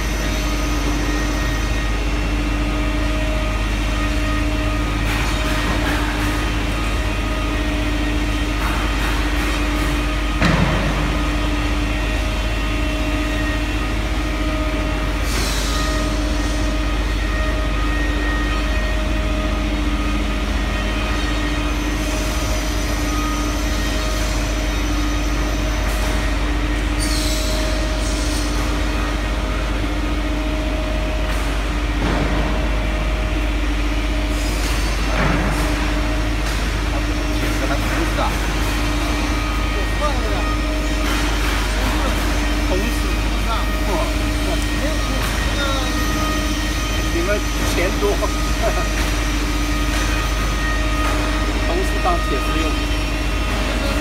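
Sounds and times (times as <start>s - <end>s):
electric motor hum: 0.0s - 54.0s.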